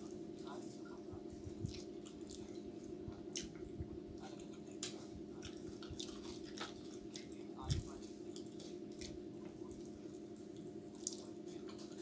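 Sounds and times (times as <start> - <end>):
steady low hum: 0.0 - 12.0
person chewing: 1.4 - 12.0.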